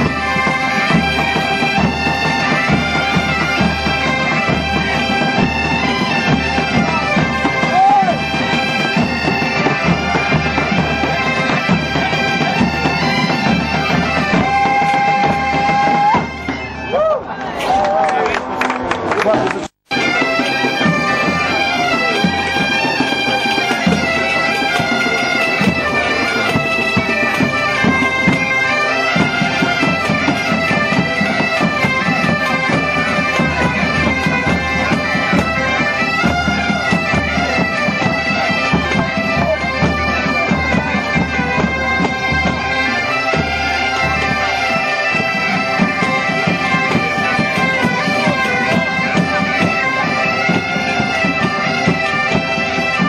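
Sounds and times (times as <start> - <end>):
bagpipes playing with drone: 0.0 - 16.9, 19.9 - 53.0
drums keeping beat: 0.0 - 17.8, 19.2 - 53.0.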